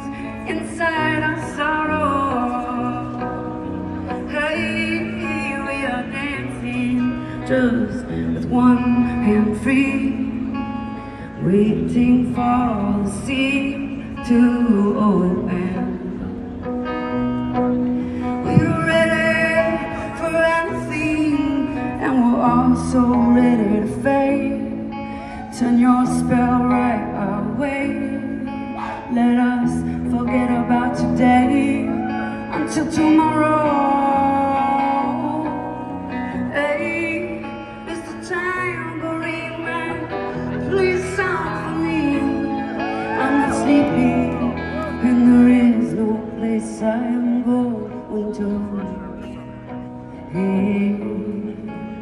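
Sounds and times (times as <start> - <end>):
person singing: 0.0 - 17.0, 18.2 - 52.0.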